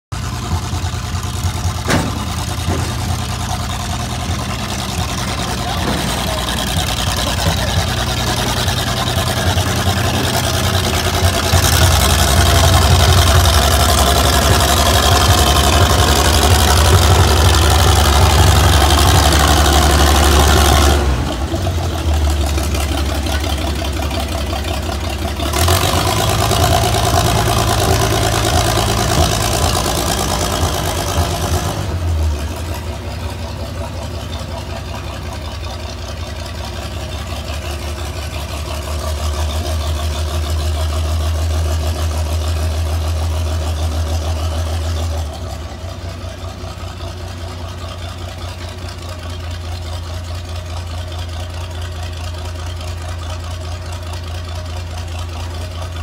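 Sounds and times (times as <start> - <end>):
locomotive engine running: 0.1 - 56.0.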